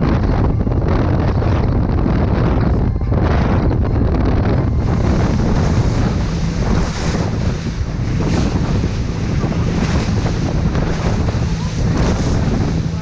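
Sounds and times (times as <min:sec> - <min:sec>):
hull slapping waves: 0:00.0 - 0:13.0
low boat engine rumble: 0:00.0 - 0:13.0
wind buffeting microphone: 0:00.0 - 0:13.0.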